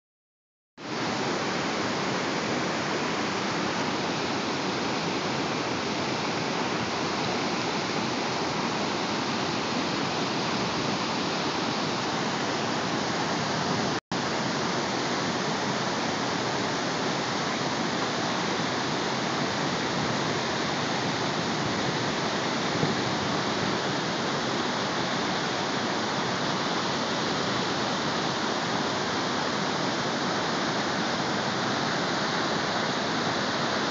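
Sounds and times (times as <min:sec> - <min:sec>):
water rushing: 0:00.8 - 0:33.9.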